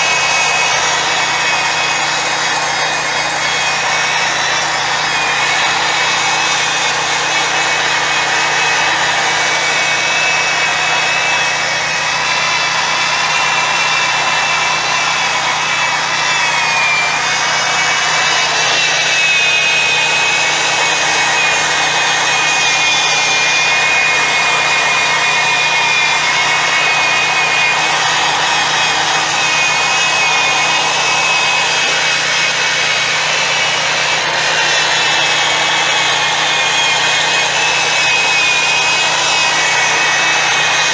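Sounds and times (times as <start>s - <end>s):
electric drill motor whine: 0.0s - 40.9s
polishing pad rubbing: 0.0s - 40.9s.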